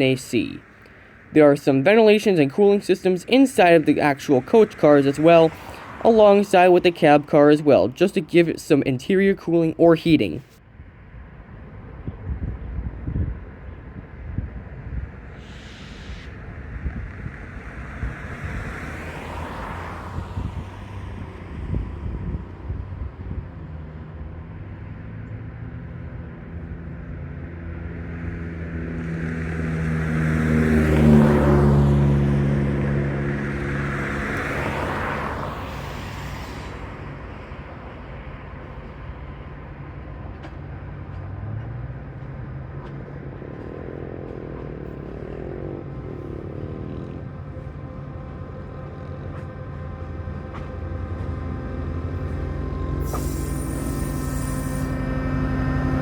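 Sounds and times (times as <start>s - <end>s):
low engine hum: 0.0s - 9.0s, 10.2s - 56.0s
vehicle passing by: 0.0s - 9.4s, 12.0s - 56.0s.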